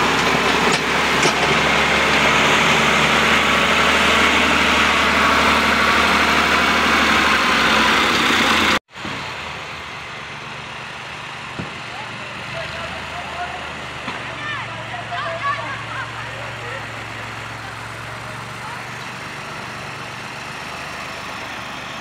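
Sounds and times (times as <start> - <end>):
distant engine: 0.0 - 22.0
tractor diesel engine running: 0.0 - 22.0.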